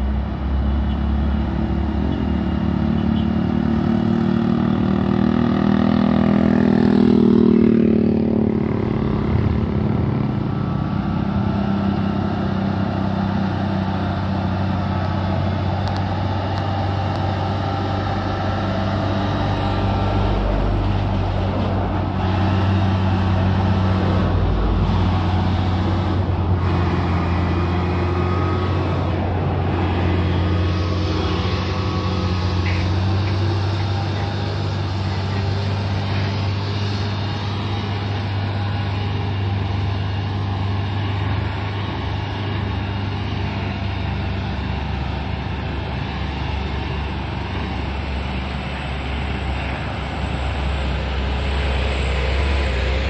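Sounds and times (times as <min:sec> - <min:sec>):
road noise: 0:00.0 - 0:53.0
truck diesel engine running: 0:00.0 - 0:53.0.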